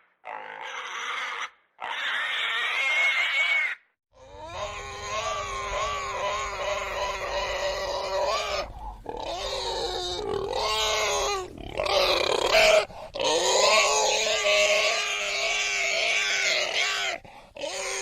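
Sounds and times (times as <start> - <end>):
pig squealing: 0.2 - 18.0.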